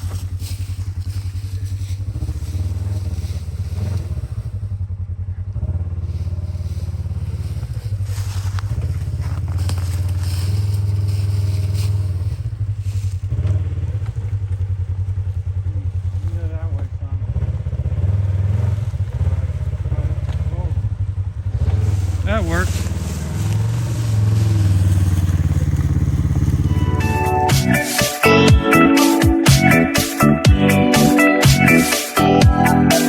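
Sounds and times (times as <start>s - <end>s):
engine running at low revs: 0.0s - 33.0s.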